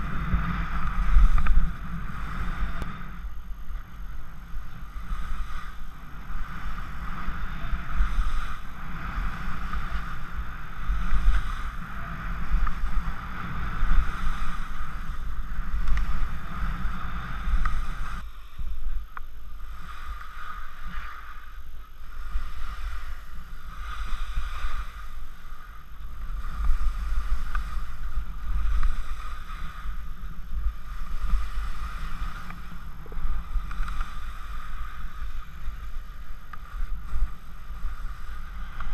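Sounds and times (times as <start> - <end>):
skis hissing over snow: 0.0 - 38.9
wind buffeting microphone: 0.0 - 38.9.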